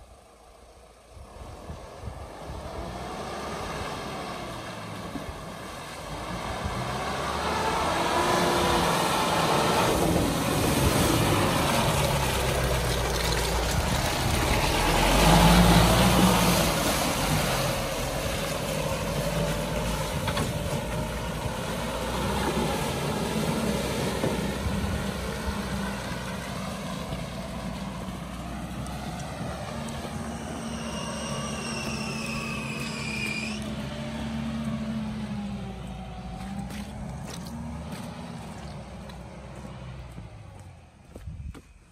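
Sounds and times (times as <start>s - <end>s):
diesel truck engine passing: 1.0s - 41.2s.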